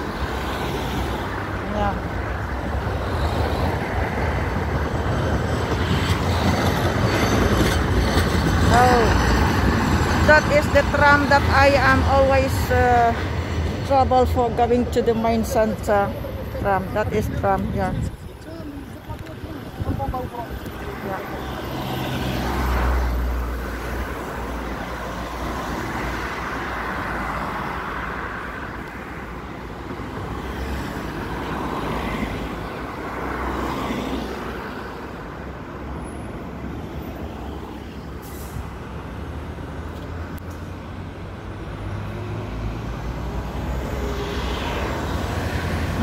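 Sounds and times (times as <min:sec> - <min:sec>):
passing road traffic: 0:00.0 - 0:46.0.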